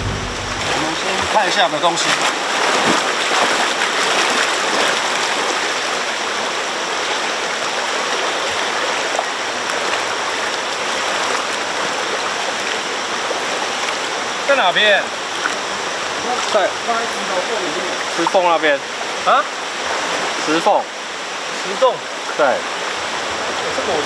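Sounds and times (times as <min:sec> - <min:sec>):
stream running over rocks: 0:00.0 - 0:24.0
water swishing around wading legs: 0:00.0 - 0:24.0.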